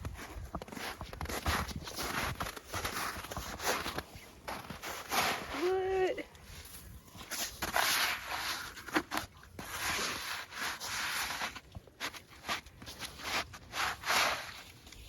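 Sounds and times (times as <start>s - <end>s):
crunching on icy snow: 0.0s - 15.0s.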